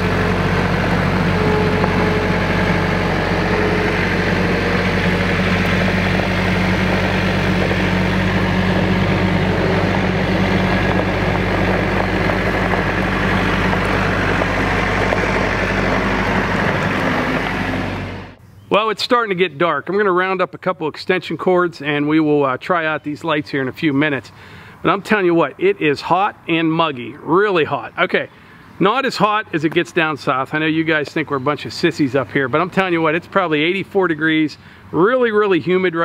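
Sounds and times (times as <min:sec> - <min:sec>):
tractor diesel engine running: 0:00.0 - 0:18.4, 0:21.5 - 0:36.0
tyres on gravel: 0:00.0 - 0:18.4, 0:24.9 - 0:36.0.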